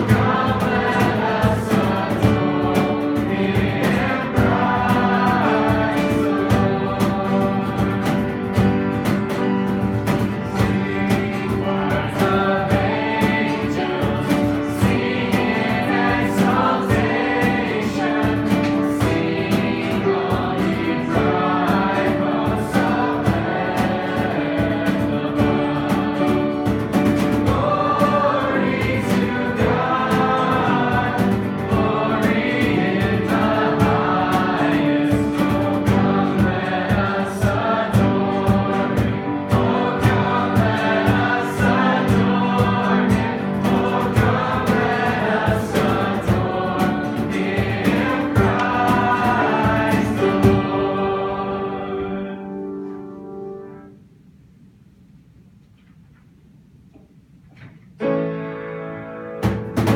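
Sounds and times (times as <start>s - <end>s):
band with steady drum beat: 0.0s - 50.8s, 59.4s - 59.9s
voices singing gospel song: 0.0s - 53.9s.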